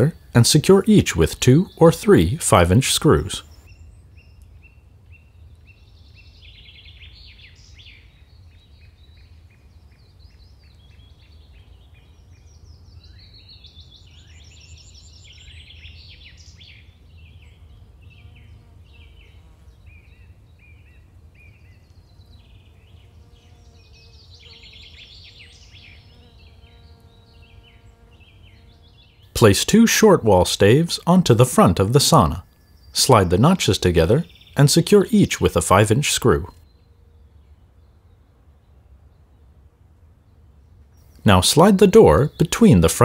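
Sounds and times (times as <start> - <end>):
songbirds singing: 0.0 - 43.0.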